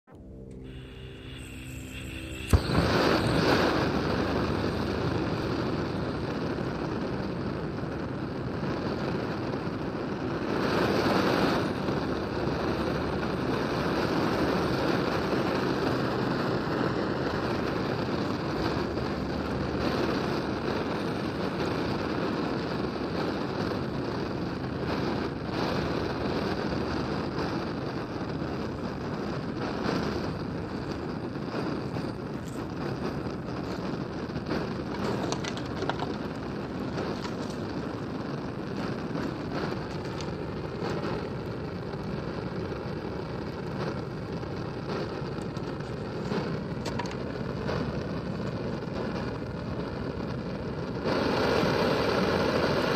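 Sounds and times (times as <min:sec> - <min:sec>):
gas torch flame rushing: 0:00.2 - 0:52.9.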